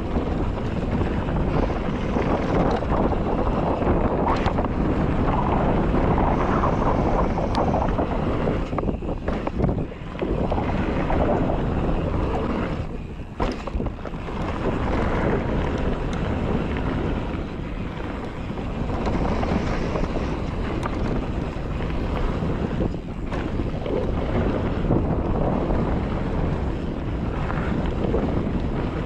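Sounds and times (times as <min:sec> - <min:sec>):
tyres rumbling on trail: 0:00.0 - 0:29.0
wind rushing over microphone: 0:00.0 - 0:29.0.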